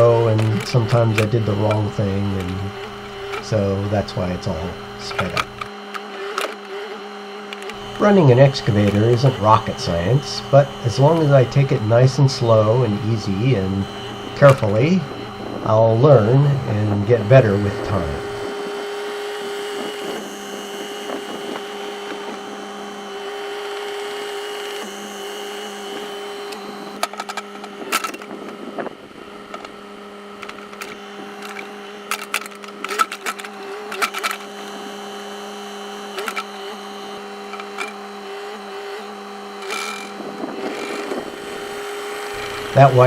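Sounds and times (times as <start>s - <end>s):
high motor whine: 0.0s - 43.0s.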